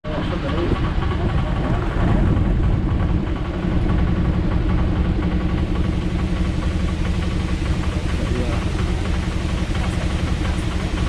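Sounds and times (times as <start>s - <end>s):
auto-rickshaw engine running: 0.1s - 11.0s.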